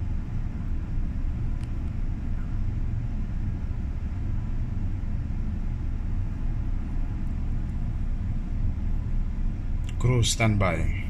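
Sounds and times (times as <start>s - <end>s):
helicopter idling rumble: 0.0s - 11.0s.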